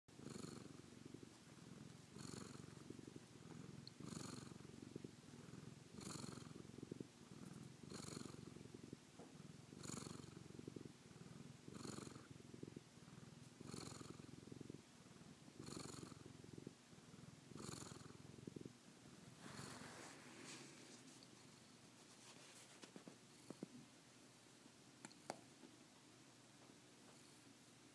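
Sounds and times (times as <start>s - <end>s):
cat purring: 0.1s - 24.0s, 26.7s - 27.9s.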